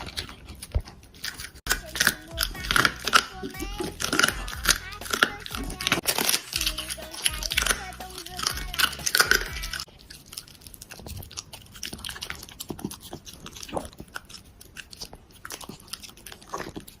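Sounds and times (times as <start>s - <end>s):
dog chewing: 0.0s - 17.0s.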